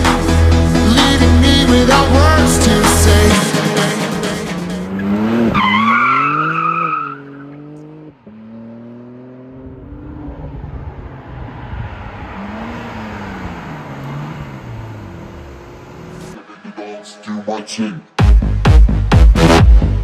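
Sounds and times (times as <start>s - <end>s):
car engine accelerating hard: 0.0s - 16.6s
tyre and road noise: 0.0s - 16.6s.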